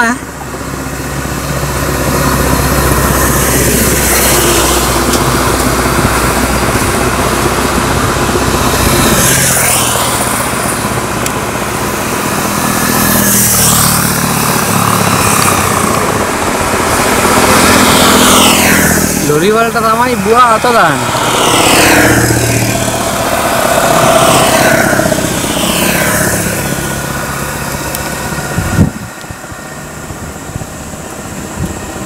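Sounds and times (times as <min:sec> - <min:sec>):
lorry driving past: 0:00.0 - 0:32.0
low engine hum: 0:00.0 - 0:32.0
motorcycles passing: 0:00.0 - 0:32.0
road traffic passing: 0:00.0 - 0:32.0.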